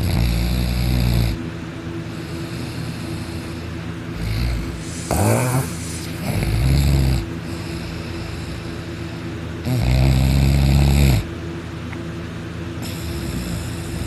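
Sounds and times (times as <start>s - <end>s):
person snoring: 0.0s - 1.4s, 2.1s - 11.3s, 12.8s - 14.0s
steady low hum: 0.0s - 14.0s.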